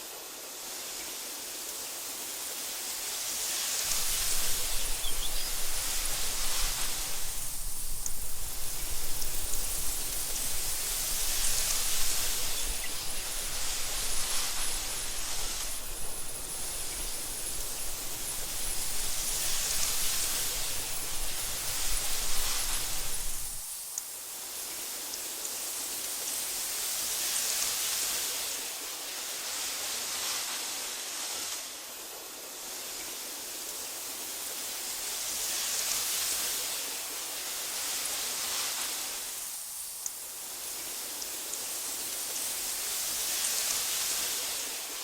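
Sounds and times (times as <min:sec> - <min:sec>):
wind blowing through grass: 0:00.0 - 0:45.0.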